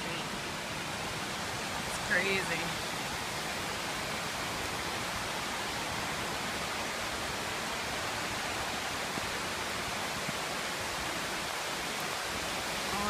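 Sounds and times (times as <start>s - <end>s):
heavy rain pouring: 0.0s - 13.0s
runoff water rushing: 0.0s - 13.0s.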